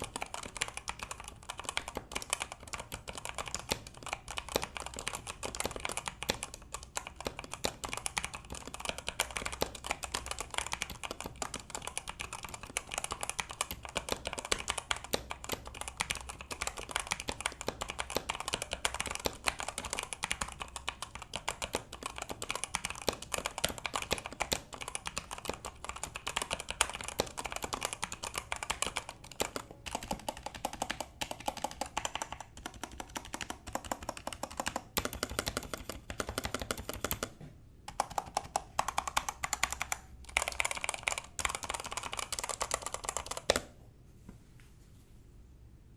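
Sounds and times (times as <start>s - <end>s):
fast typing on mechanical keyboard: 0.0s - 43.7s.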